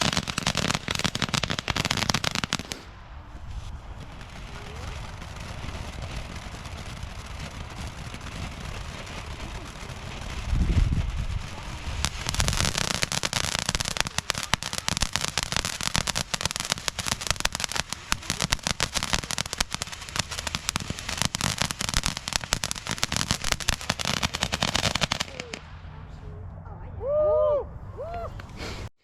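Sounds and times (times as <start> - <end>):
fireworks crackling and popping: 0.0 - 26.1.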